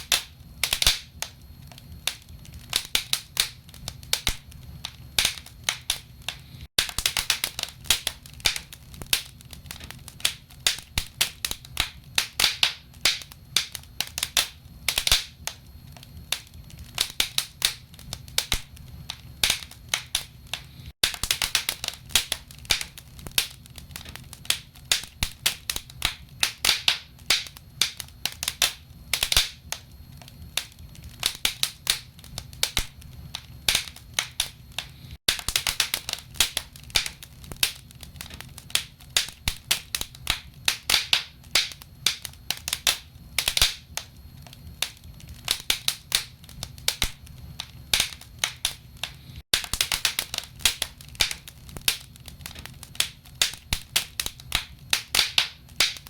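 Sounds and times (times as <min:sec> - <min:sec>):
logs crackling and popping: 0:00.1 - 0:56.0.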